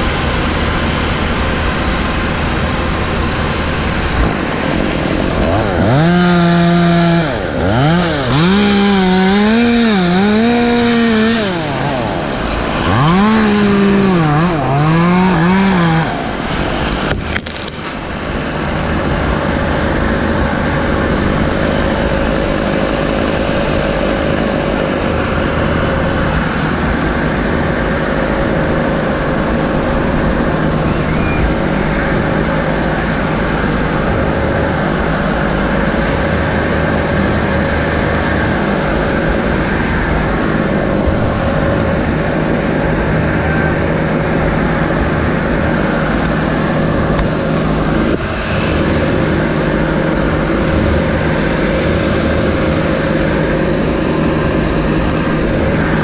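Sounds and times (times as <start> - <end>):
heavy engine running: 0.0 - 56.0
chainsaw revving: 3.8 - 30.9, 32.3 - 56.0.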